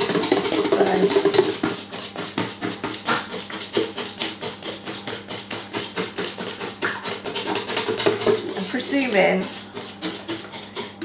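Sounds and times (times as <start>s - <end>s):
whisk clicking against bowl: 0.0s - 11.0s.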